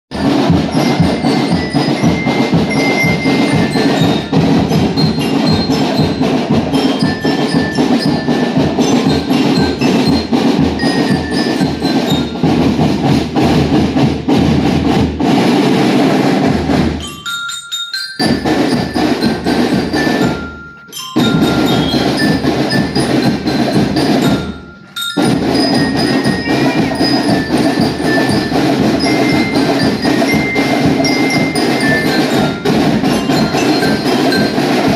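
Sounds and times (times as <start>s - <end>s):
marching drums beat: 0.1s - 34.9s
bell lyre melody: 0.2s - 13.1s, 16.8s - 34.9s.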